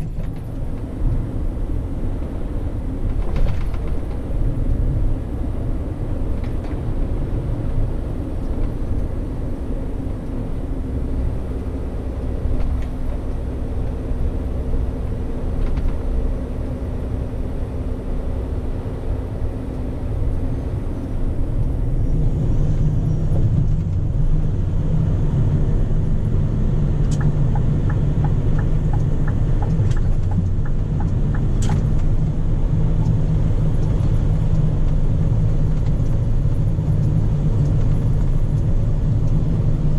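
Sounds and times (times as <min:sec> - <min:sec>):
road rumble: 0:00.0 - 0:39.9.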